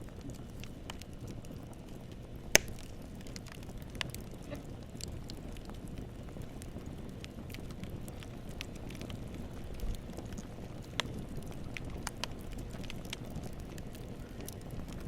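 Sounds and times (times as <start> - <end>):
wood bonfire crackling: 0.0 - 15.0.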